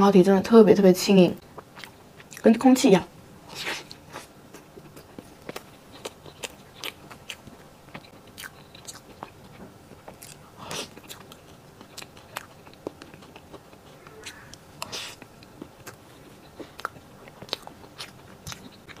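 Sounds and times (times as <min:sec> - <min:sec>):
wet chewing and lip smacks: 0:03.5 - 0:19.0.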